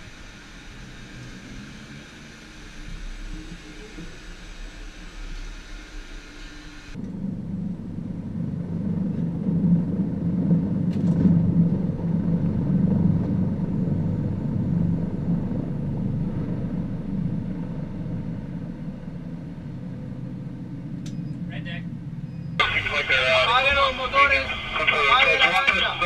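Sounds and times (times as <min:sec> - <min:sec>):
helicopter rotor and engine rumble: 0:00.0 - 0:26.0.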